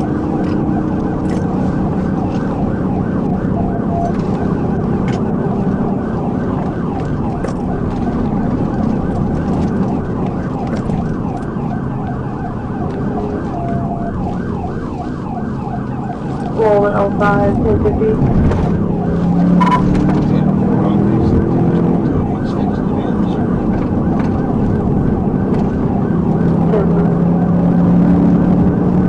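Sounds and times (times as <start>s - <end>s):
car engine and road noise: 0.0s - 29.0s
police siren yelp: 0.0s - 29.0s.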